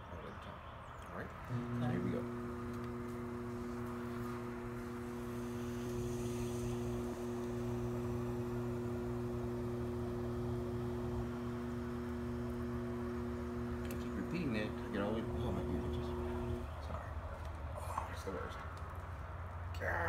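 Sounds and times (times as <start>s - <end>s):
potter's wheel motor humming: 1.4s - 19.7s.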